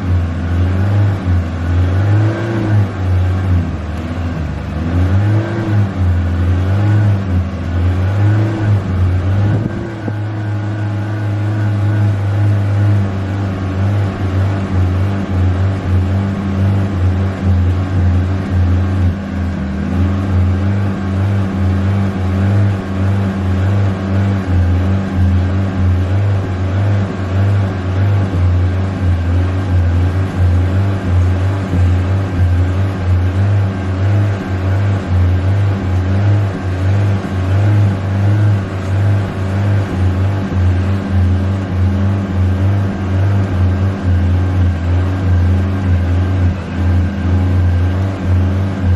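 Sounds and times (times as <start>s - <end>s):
car engine revving lightly: 0.0s - 48.9s.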